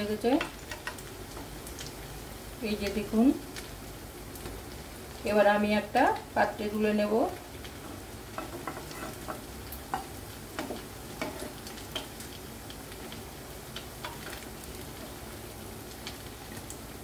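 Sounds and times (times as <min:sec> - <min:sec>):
fritters sizzling in oil: 0:00.0 - 0:17.0.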